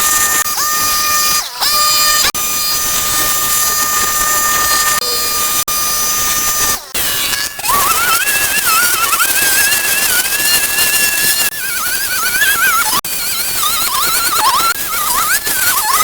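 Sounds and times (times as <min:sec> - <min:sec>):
machine high-pitched whine: 0:00.0 - 0:16.0.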